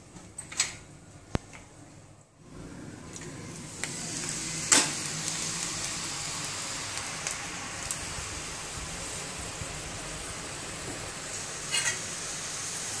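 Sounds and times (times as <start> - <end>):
dough sizzling in hot oil: 2.4 - 13.0.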